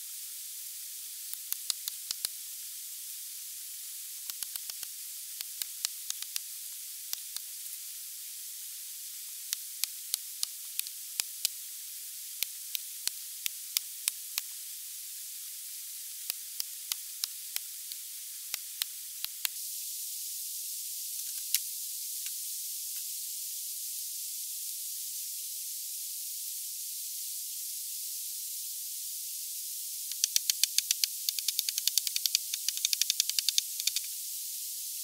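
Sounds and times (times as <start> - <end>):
steady hiss: 0.0 - 35.0.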